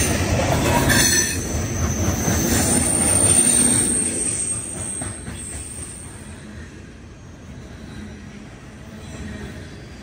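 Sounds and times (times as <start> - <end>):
freight cars rolling on rails: 0.0 - 10.0.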